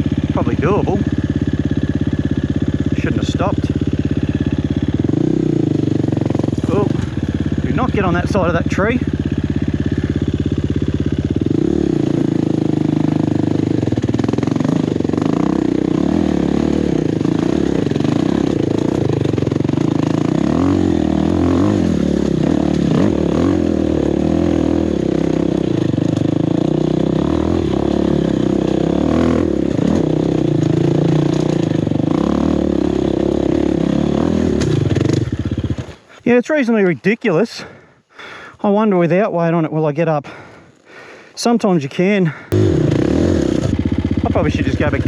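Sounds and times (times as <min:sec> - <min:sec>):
dirt bike engine revving: 0:00.0 - 0:36.3, 0:42.3 - 0:45.0.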